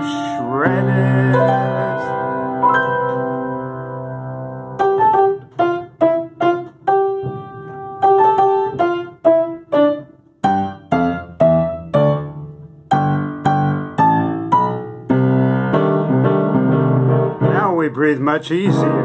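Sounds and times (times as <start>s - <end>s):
piano melody: 0.0s - 19.0s.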